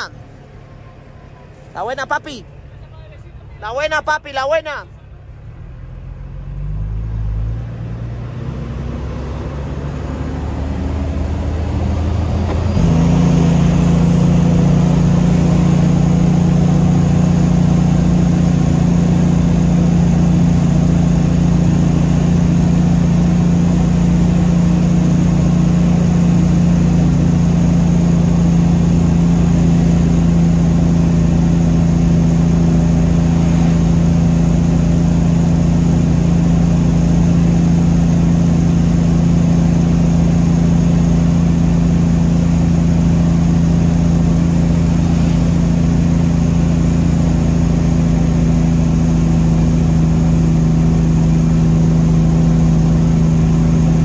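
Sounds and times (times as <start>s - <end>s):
truck engine pulling away: 0.0s - 4.0s, 4.8s - 54.0s.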